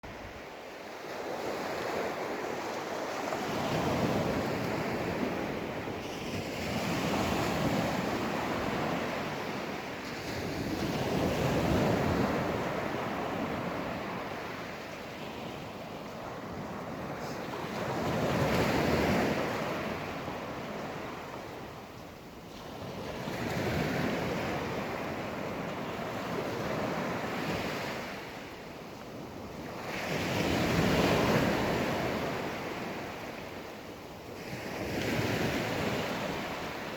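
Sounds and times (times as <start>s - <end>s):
ocean surf breaking on beach: 0.1s - 36.9s.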